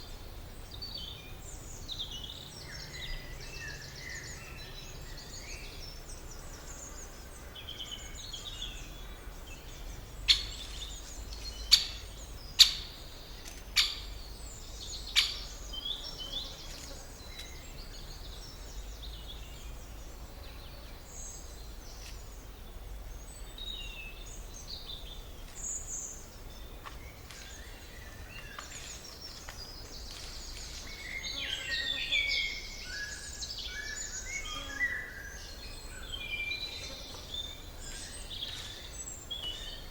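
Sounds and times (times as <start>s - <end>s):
birds chirping and singing: 0.7s - 39.9s.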